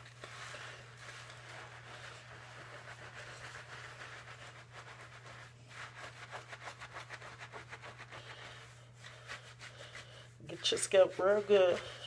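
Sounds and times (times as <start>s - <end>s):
fingers scrubbing lathered hair: 0.0s - 12.0s.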